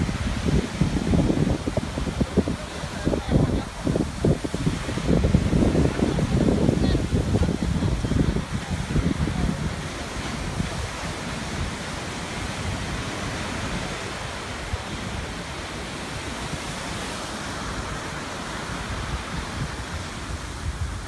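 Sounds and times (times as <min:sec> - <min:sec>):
waves breaking on a beach: 0:00.0 - 0:21.0.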